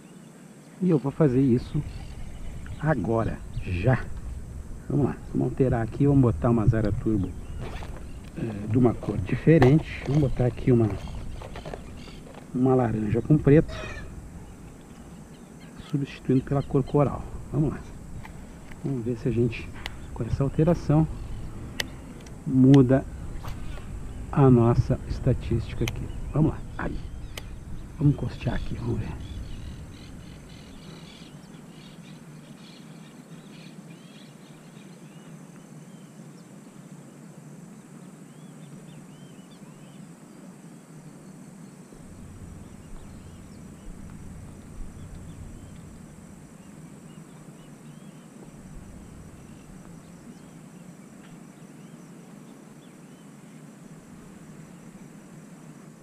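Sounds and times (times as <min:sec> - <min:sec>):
high insect hum: 0:00.0 - 0:56.0.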